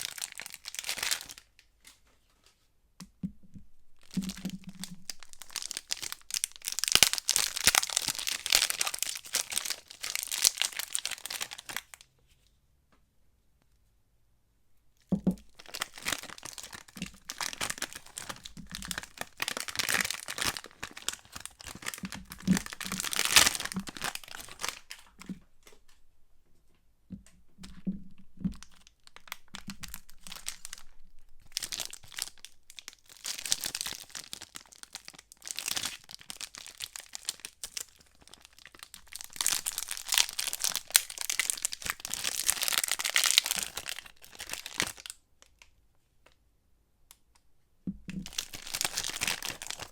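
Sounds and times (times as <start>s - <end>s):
wrappers crinkling and tearing: 0.0s - 2.0s, 4.0s - 12.0s, 15.4s - 25.9s, 27.6s - 45.7s, 48.2s - 49.9s.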